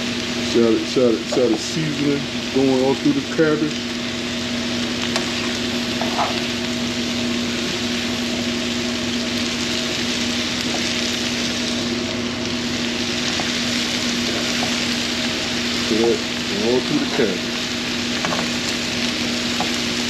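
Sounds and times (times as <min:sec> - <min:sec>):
cabbage sizzling in a skillet: 0:00.0 - 0:20.0
low hum: 0:00.0 - 0:20.0.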